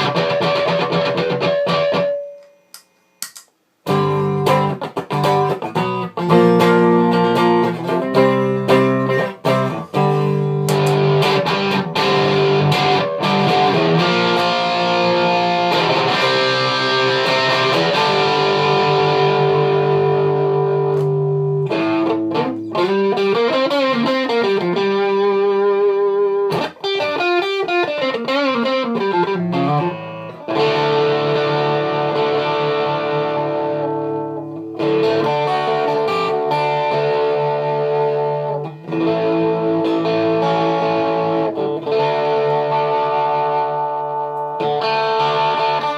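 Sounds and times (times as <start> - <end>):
electric guitar playing: 0.0 - 45.9.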